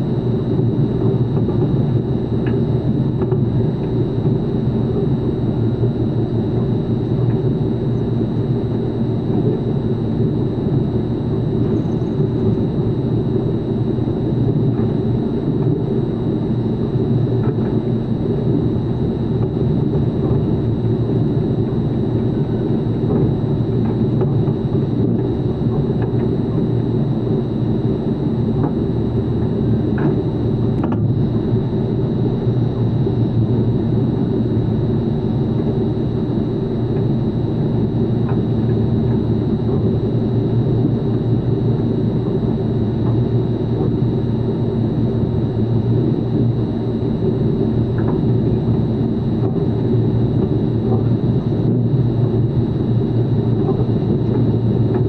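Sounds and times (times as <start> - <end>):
loud machine drone: 0.0 - 55.0.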